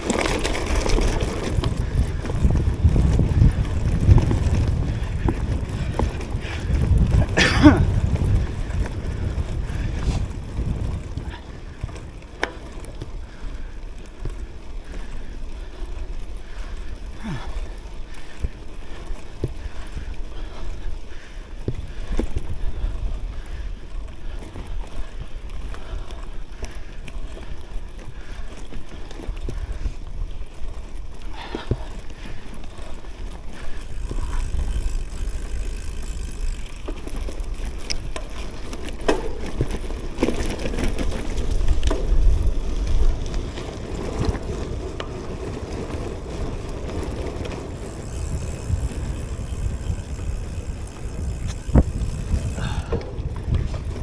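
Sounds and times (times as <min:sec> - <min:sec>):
bike tyres rolling over gravel: 0:00.0 - 0:54.0
stones and bike rattling: 0:00.0 - 0:54.0
wind rumble on microphone: 0:00.0 - 0:54.0.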